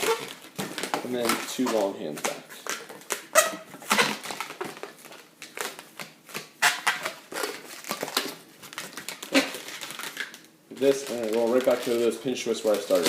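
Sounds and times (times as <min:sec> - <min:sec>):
rubbery balloon squeaks: 0:00.0 - 0:08.4, 0:09.0 - 0:11.9
balloon crinkling rubs: 0:00.0 - 0:13.0.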